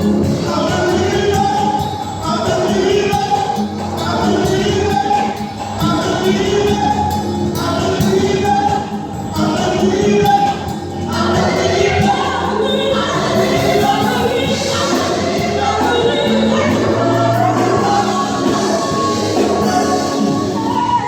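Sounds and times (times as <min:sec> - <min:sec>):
gospel choir singing: 0:00.0 - 0:21.0
instrumental accompaniment: 0:00.0 - 0:21.0
steady bass line: 0:00.0 - 0:21.0.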